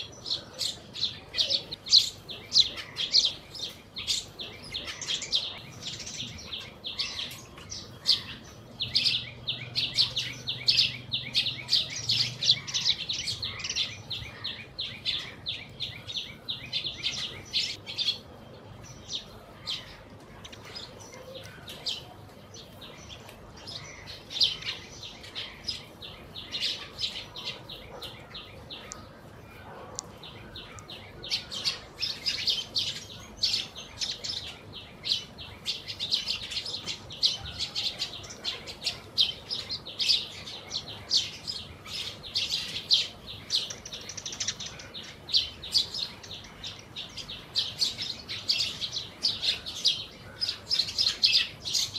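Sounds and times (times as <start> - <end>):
sparrows chirping: 0.0 - 51.9.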